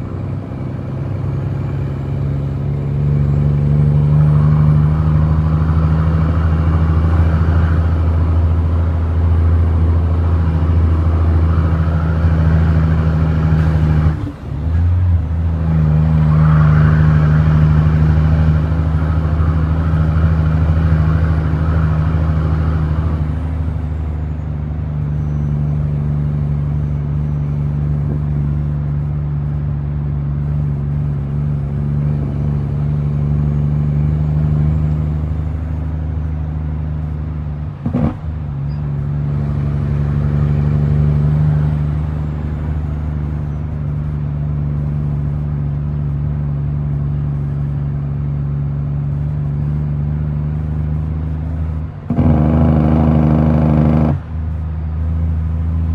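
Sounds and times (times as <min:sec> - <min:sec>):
truck diesel engine drone: 0:00.0 - 0:55.9.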